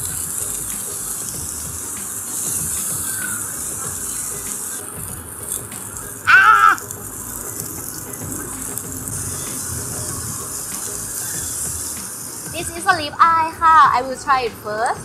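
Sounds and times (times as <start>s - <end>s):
high-pitched squeal: 0.0s - 13.0s
meat sizzling in a pan: 0.0s - 15.0s.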